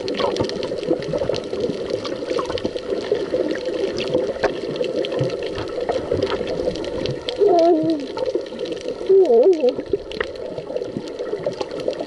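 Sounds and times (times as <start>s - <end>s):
muffled underwater sloshing: 0.0s - 12.0s
small underwater clicks: 0.0s - 12.0s.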